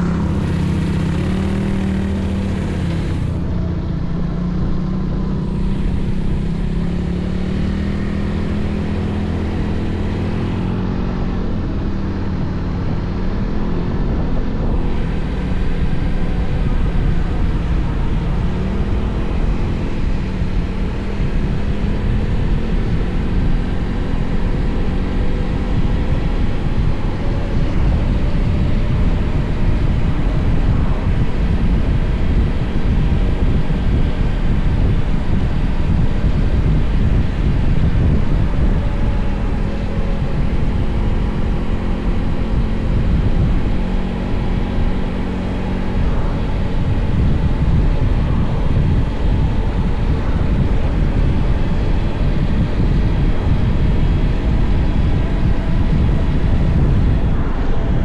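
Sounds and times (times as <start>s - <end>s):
motorcycle engine cruising: 0.0s - 58.0s
wind rumbling on microphone: 0.0s - 58.0s.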